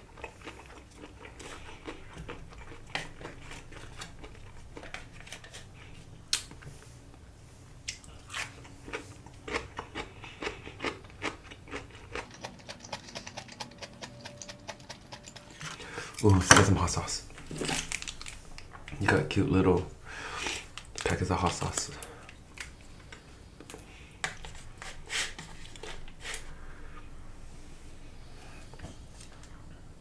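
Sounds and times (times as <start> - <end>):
person chewing with wet clicks: 0.0 - 7.2, 7.8 - 27.2.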